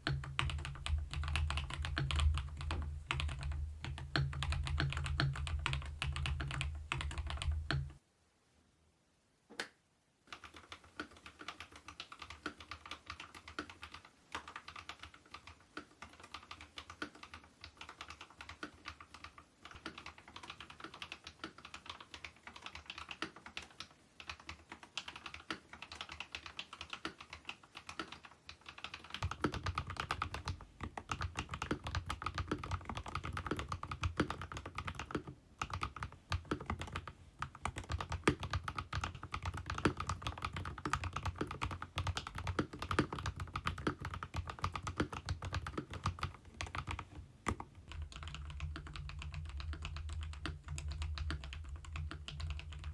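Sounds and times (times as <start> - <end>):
mechanical keyboard typing: 0.0 - 8.0, 10.3 - 52.9.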